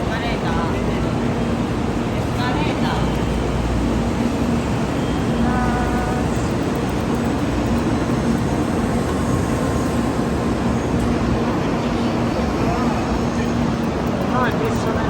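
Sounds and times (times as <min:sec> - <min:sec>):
passenger train running: 0:00.0 - 0:15.0.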